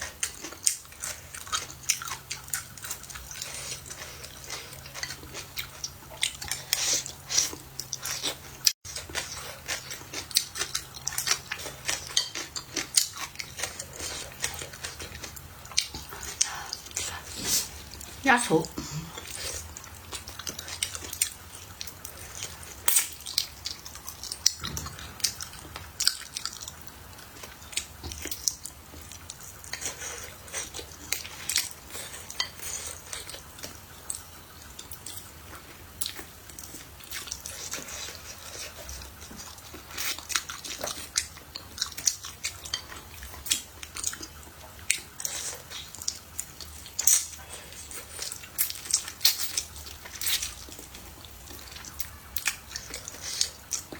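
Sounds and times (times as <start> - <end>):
chewing and crunching food: 0.0 - 53.9.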